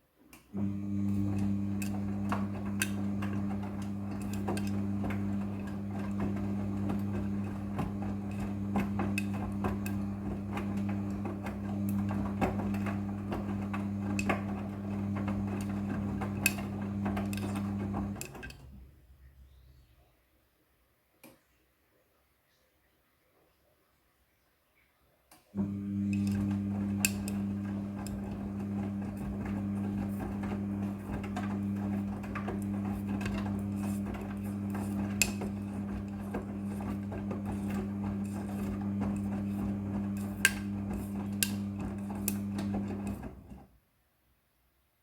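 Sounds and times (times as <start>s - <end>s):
washing machine humming: 0.5s - 19.1s, 25.5s - 43.8s.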